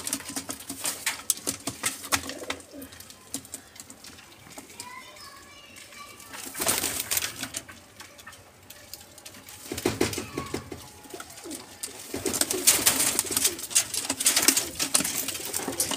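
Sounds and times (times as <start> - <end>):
pigeons cooing: 0.0 - 4.5, 6.4 - 15.9
rustling and scraping: 0.0 - 15.9.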